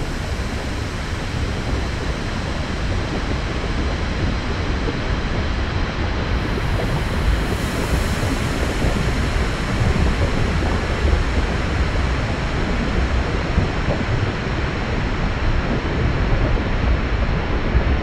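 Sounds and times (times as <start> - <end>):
deep volcanic rumble: 0.0 - 18.0.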